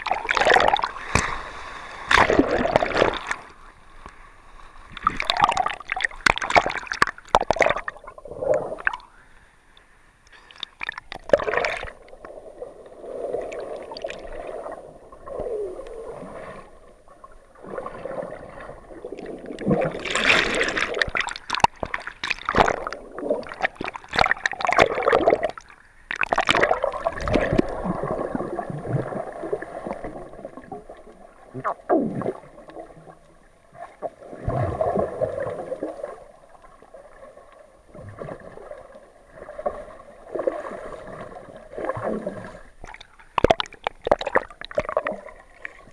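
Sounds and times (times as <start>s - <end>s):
muffled water sloshing underwater: 0.0s - 45.9s.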